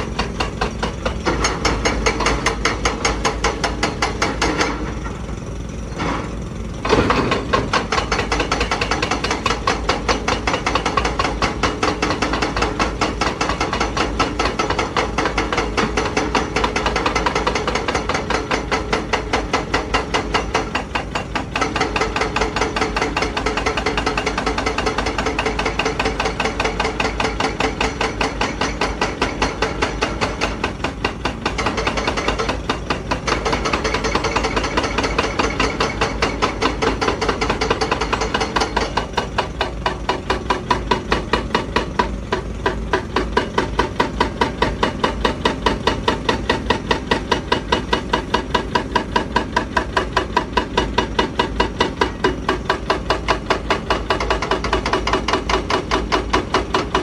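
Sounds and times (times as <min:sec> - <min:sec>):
hydraulic breaker hammering rock: 0:00.0 - 0:57.0.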